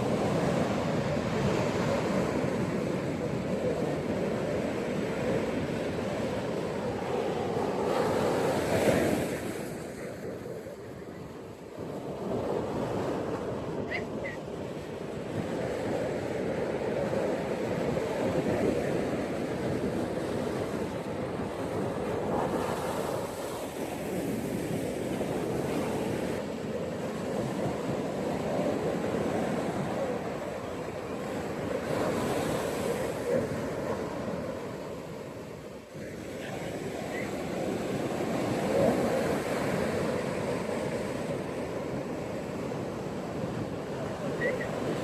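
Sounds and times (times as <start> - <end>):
ocean waves washing onto beach: 0.0 - 45.0.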